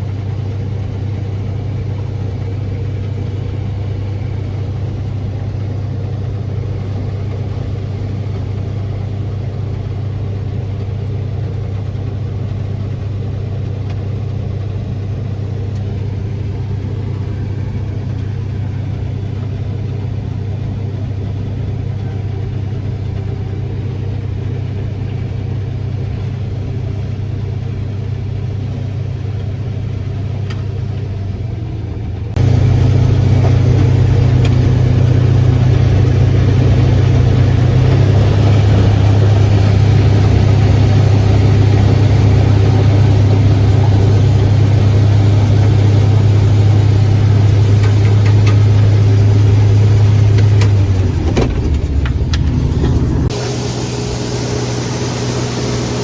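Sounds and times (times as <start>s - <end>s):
farm machine engine humming: 0.0s - 56.0s.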